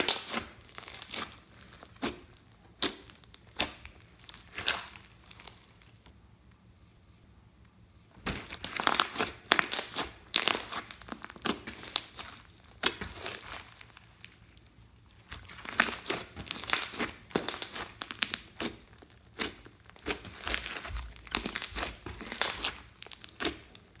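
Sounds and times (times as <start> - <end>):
slime squishing sticky crackles: 0.0 - 6.6, 8.1 - 24.0.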